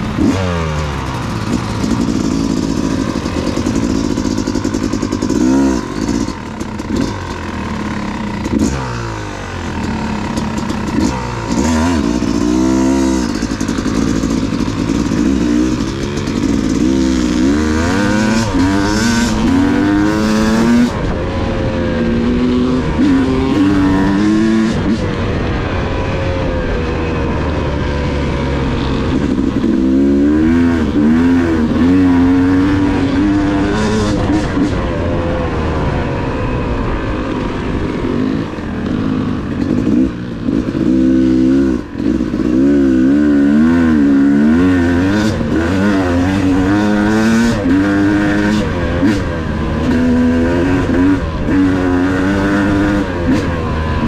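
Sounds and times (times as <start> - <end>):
two-stroke dirt bike engine revving: 0.0 - 54.0.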